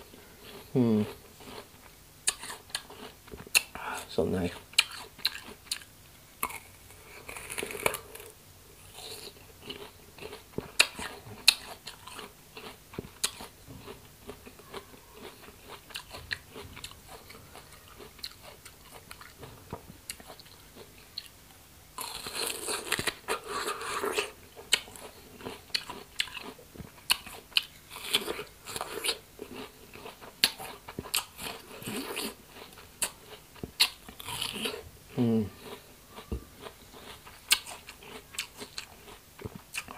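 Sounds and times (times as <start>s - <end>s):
crunchy apple bites: 0.4s - 39.9s
wet chewing: 4.5s - 8.3s, 9.0s - 21.3s, 22.0s - 34.8s, 35.6s - 39.9s.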